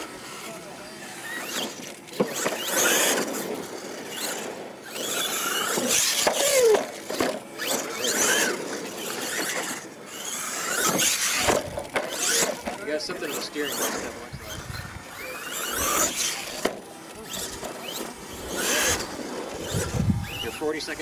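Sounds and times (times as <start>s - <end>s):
toy truck motor whining: 0.0s - 21.0s.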